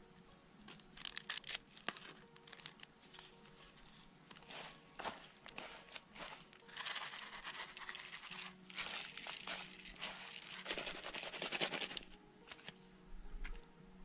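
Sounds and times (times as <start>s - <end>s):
plastic packets crinkling: 0.8s - 12.7s.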